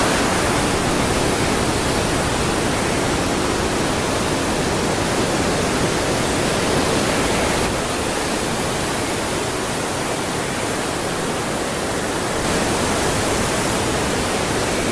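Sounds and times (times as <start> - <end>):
sea surf breaking: 0.0 - 14.9.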